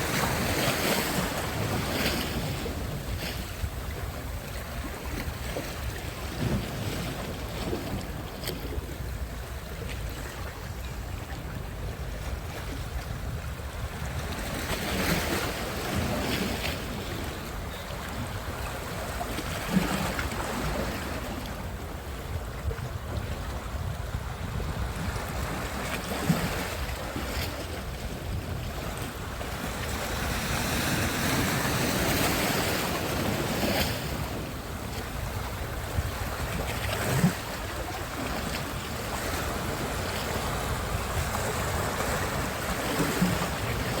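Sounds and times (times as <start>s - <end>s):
waves washing onto beach: 0.0s - 44.0s
wind rumbling on microphone: 0.0s - 44.0s.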